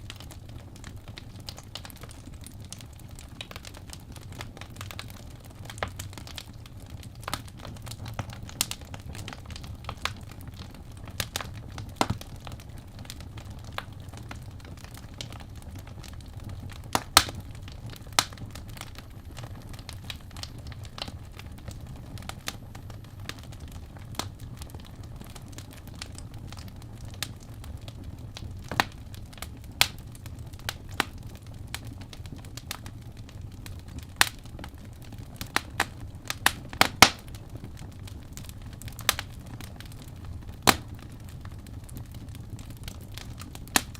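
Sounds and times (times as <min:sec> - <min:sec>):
burning logs crackling: 0:00.0 - 0:43.9
low rumble of flames: 0:00.0 - 0:43.9.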